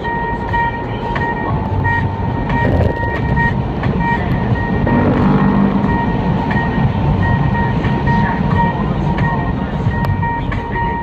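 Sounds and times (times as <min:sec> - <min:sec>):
car engine: 0:00.0 - 0:11.0
high beeping tone: 0:00.0 - 0:11.0.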